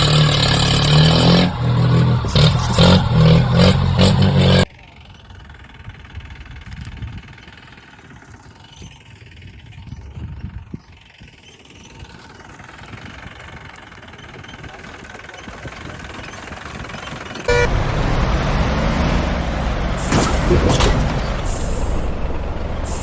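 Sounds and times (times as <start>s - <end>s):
vehicle engine running loudly: 0.0s - 23.0s.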